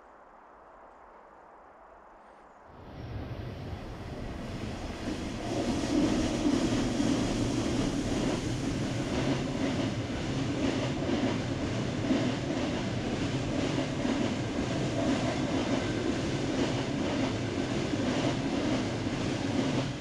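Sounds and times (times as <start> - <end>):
train wheels rumbling on rails: 2.8 - 20.0.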